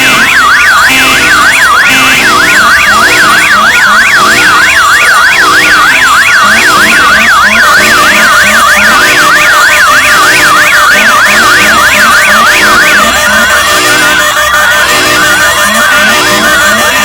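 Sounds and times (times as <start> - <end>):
electronic siren wail: 0.0 - 17.0
repeating low tones: 0.0 - 17.0.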